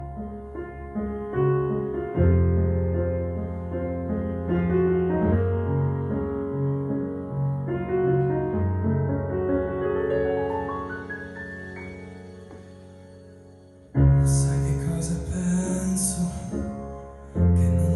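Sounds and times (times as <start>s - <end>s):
piano playing slow chords: 0.0s - 17.9s.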